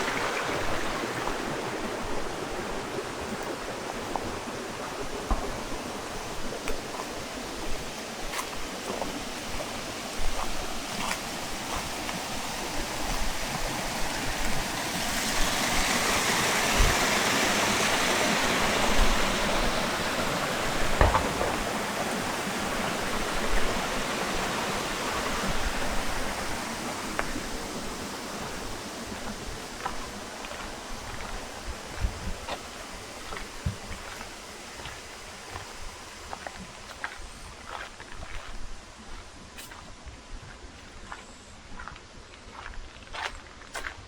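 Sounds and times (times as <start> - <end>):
stream running: 0.0 - 44.0.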